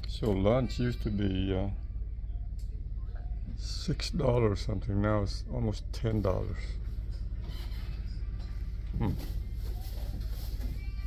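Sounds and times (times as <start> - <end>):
restaurant room hum: 0.0 - 11.0.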